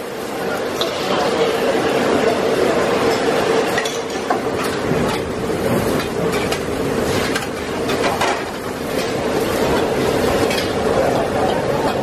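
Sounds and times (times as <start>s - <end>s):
roaring gas burner: 0.0s - 12.0s.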